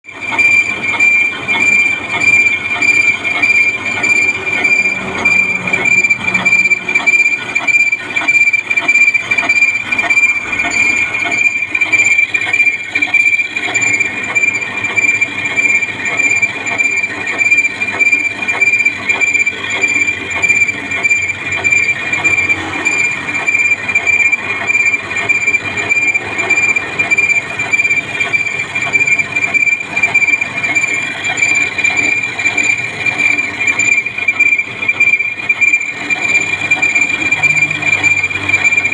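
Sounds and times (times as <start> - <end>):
high-pitched tool squeal: 0.1 - 38.9
metal lathe cutting: 0.1 - 38.9.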